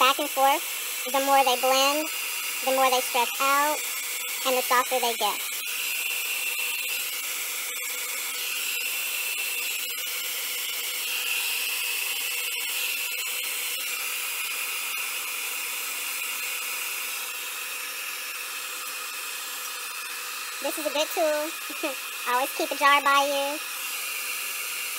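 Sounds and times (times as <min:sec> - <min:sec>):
blow dryer whirring: 0:00.0 - 0:24.9.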